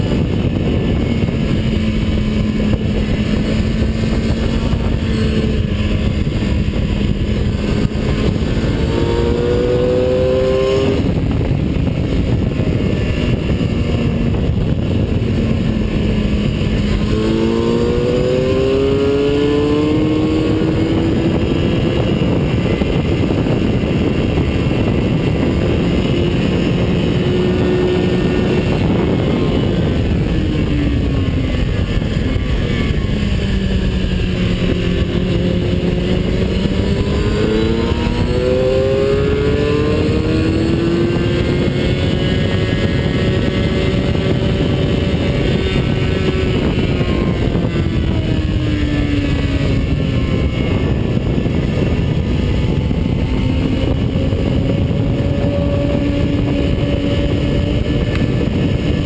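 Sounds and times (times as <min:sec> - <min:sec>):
racing car engine: 0:00.0 - 0:59.0
wind rush on microphone: 0:00.0 - 0:59.0.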